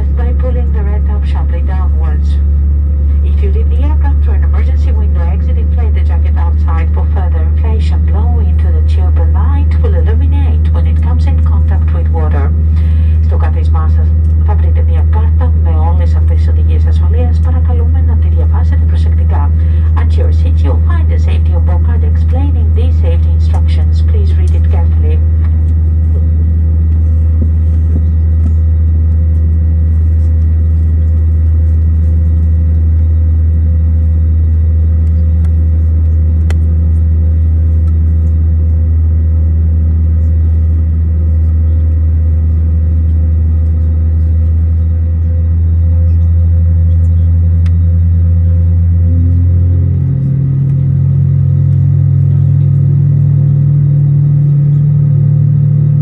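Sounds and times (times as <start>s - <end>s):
aircraft cabin drone: 0.0s - 56.0s
higher hum: 0.0s - 56.0s.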